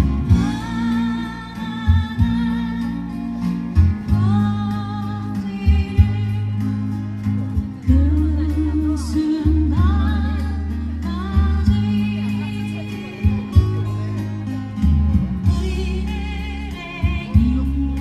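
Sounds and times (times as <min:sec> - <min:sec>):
guitar accompaniment: 0:00.0 - 0:18.0
low bass notes: 0:00.0 - 0:18.0
person singing a ballad: 0:00.0 - 0:18.0.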